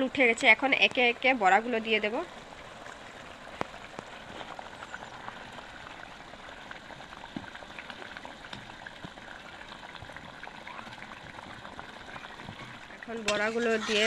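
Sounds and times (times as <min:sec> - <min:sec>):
curry bubbling and popping: 0:00.0 - 0:14.0.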